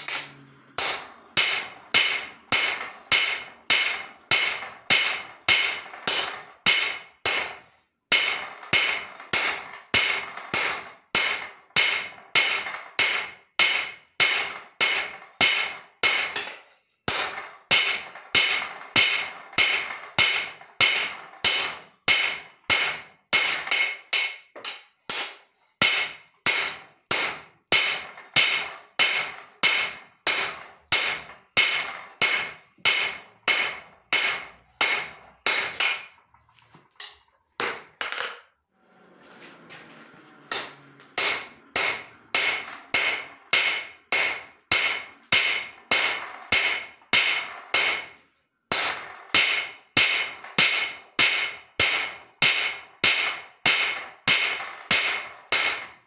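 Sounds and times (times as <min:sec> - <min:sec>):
hammer striking steel on anvil: 0:00.0 - 0:36.2, 0:40.5 - 0:56.0.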